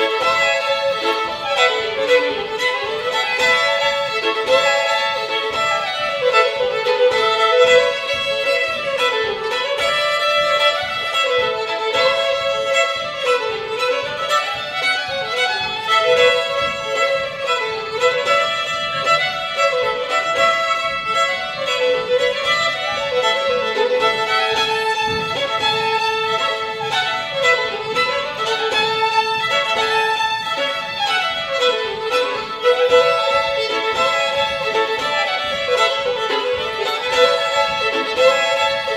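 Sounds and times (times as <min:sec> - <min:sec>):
two fiddles playing a reel: 0:00.0 - 0:38.9.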